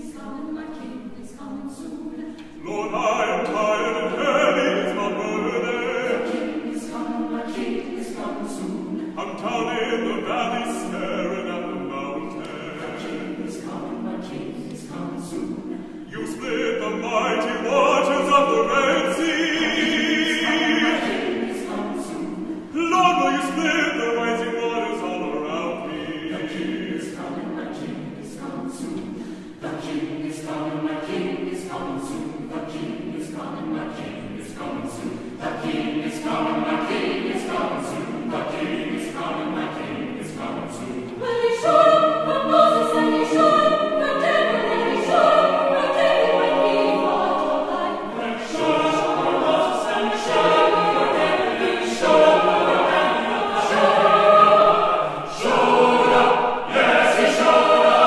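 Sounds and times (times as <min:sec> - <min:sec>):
choir singing low chords: 0:00.0 - 0:58.0
baritone singing with vibrato: 0:02.6 - 0:58.0.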